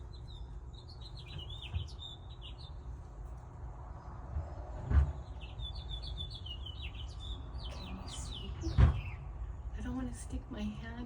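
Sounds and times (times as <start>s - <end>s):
young birds chirping: 0.0s - 3.4s, 4.5s - 10.1s.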